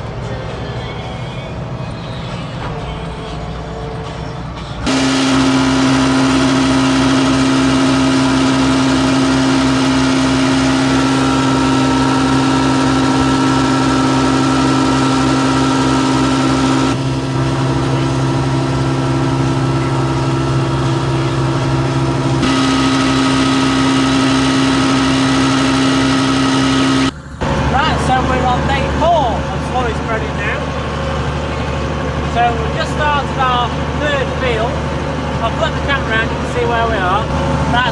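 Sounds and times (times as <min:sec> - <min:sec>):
diesel tractor engine droning: 0:03.9 - 0:37.9.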